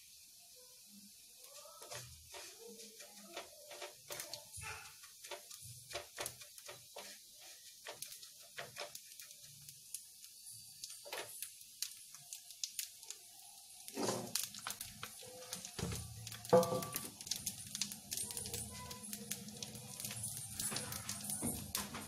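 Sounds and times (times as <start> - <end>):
seeds clicking in a pan: 1.4 - 22.0
spatula scraping a pan: 1.5 - 11.5, 13.9 - 22.0.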